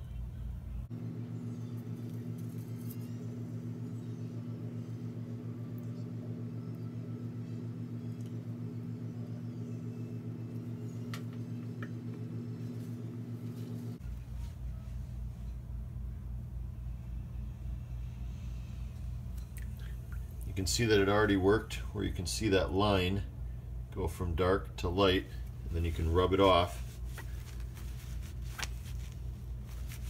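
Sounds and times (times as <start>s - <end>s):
pulsing mechanical hum: 0.0s - 30.0s.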